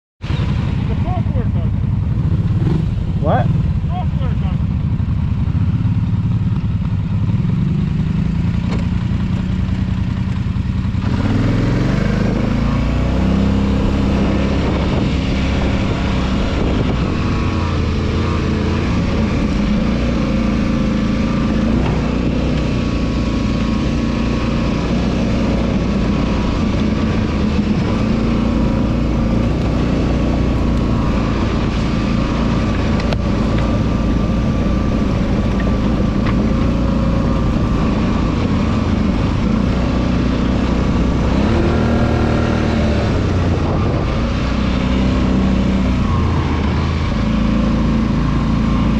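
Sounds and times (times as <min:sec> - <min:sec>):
quad bike engine accelerating: 0:00.2 - 0:48.9.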